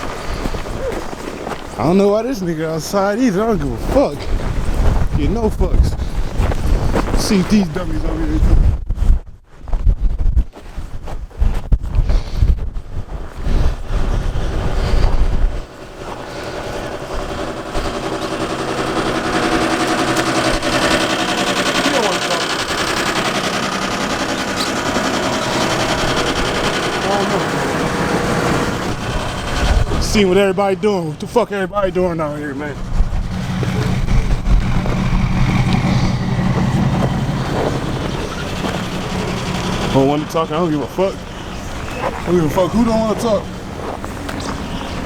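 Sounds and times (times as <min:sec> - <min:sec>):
engine running with rapid pulse: 0:00.0 - 0:08.2, 0:15.4 - 0:45.0
wind buffeting microphone: 0:00.0 - 0:45.0.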